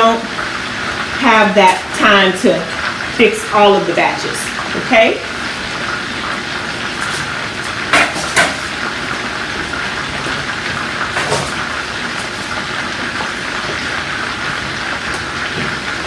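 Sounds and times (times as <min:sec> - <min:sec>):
chicken sizzling in a skillet: 0:00.1 - 0:16.0.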